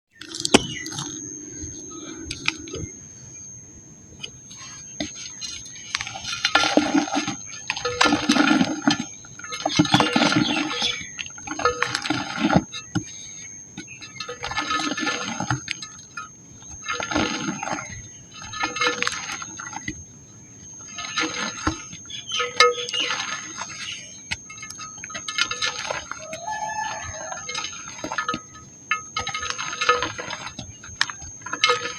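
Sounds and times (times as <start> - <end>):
dried mud crumbling and crunching: 0.2 - 31.9.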